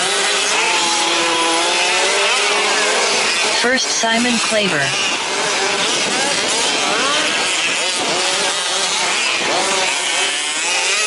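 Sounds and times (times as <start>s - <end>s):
small two-stroke engines revving: 0.0s - 11.0s.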